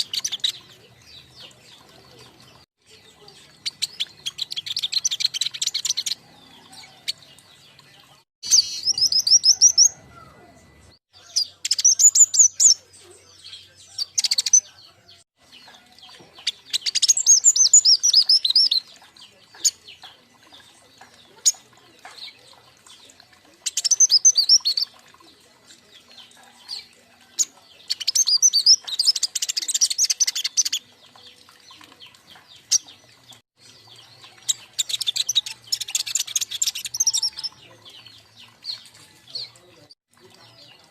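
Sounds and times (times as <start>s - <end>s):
songbirds twittering: 0.0s - 40.9s.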